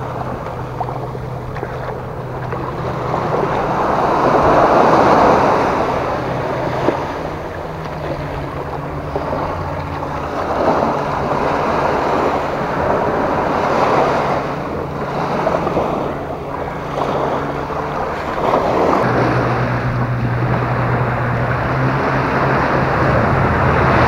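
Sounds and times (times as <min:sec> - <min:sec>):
small waves washing on rocks: 0:00.0 - 0:21.4
low steady hum: 0:00.0 - 0:24.0
wind buffeting microphone: 0:00.0 - 0:24.0.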